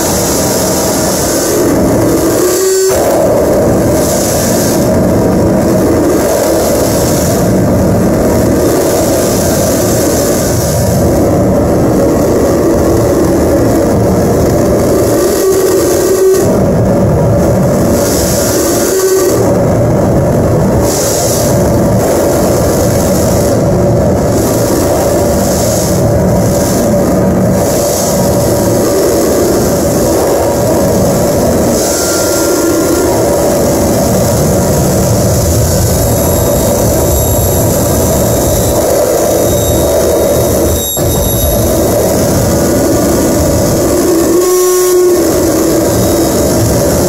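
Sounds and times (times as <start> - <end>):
heavily distorted noise: 0.0 - 47.0.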